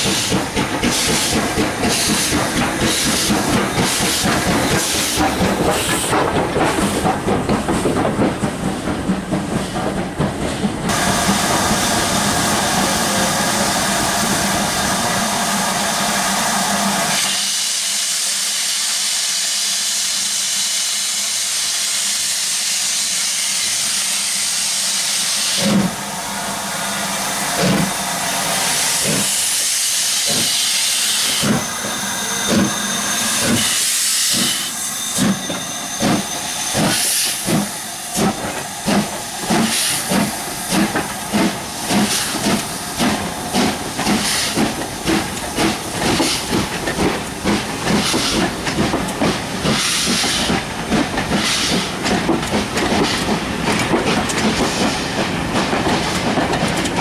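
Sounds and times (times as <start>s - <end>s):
steam hissing: 0.0s - 7.4s, 10.9s - 56.4s
steam locomotive exhaust chuffs: 0.0s - 57.0s.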